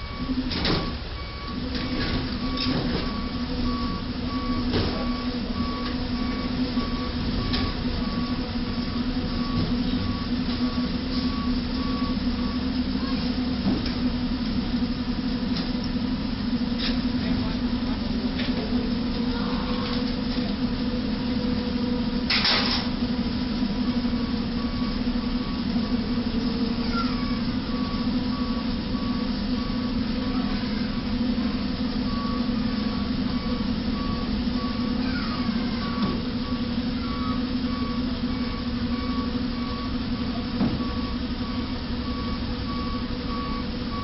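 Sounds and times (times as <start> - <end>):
traffic and engine noise: 0.0 - 44.0.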